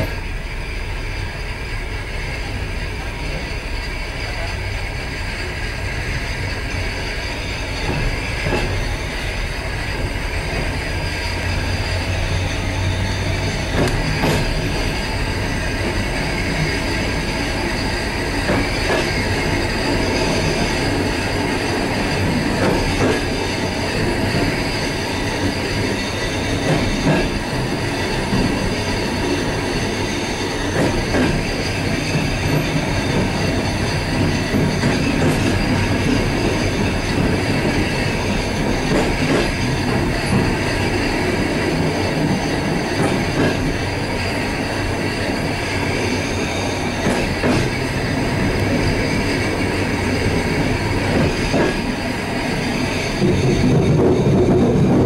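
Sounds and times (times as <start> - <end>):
train knocking: 0.0 - 55.0
train wheels rumbling on rails: 0.0 - 55.0.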